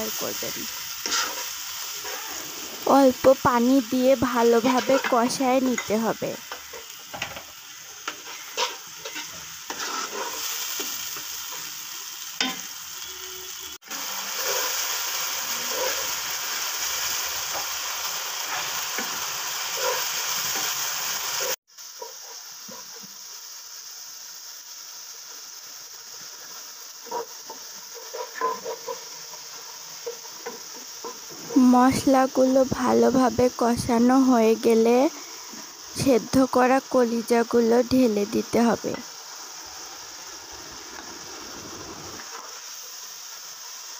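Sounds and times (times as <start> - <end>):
masala sizzling in oil: 0.0 - 43.9.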